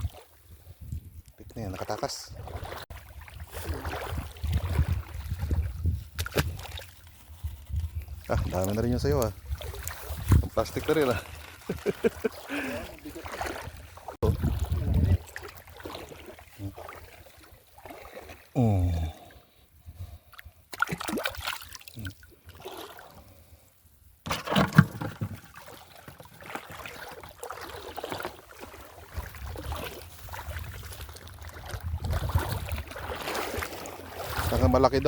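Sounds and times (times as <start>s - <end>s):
sea water sloshing: 1.6s - 18.6s, 20.3s - 23.4s, 24.3s - 35.0s.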